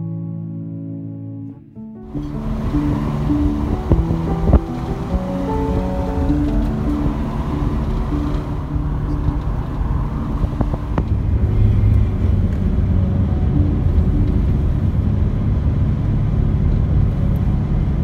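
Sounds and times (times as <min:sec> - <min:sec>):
car engine and road rumble: 0:02.0 - 0:18.0.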